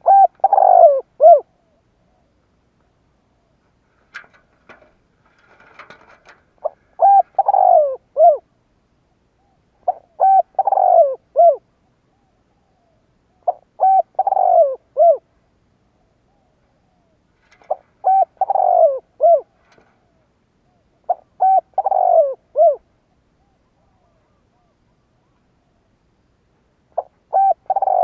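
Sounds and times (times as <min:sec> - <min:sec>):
dove cooing: 0:00.0 - 0:03.6, 0:05.4 - 0:08.5, 0:09.4 - 0:15.3, 0:15.9 - 0:25.8, 0:26.9 - 0:28.0.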